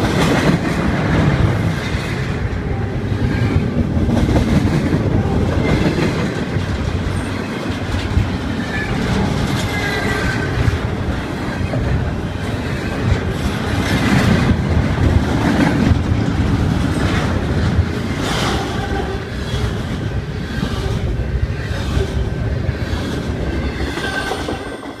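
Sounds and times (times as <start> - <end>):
steel wheels rumbling on rail: 0.0 - 25.0
wheels clacking over rail joints: 0.0 - 25.0.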